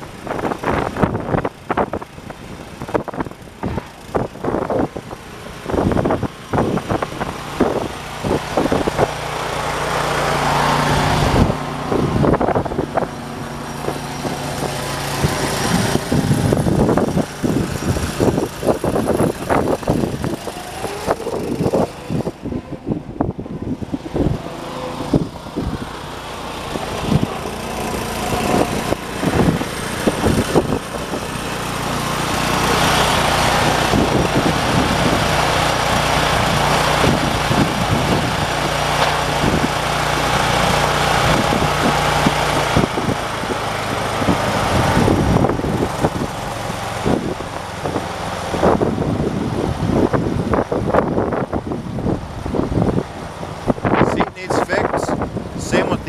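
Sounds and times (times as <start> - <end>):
garden tractor engine running: 0.0 - 56.0.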